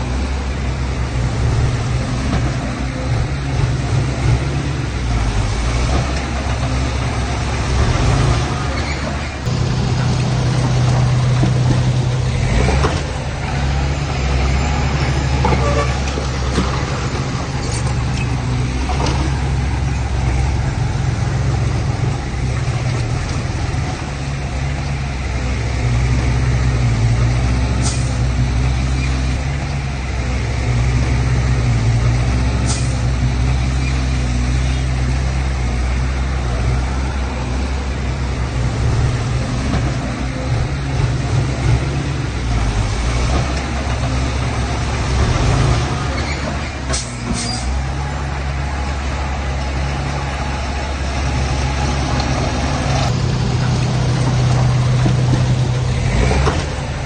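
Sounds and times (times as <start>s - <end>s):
heavy diesel engines droning: 0.0s - 57.0s.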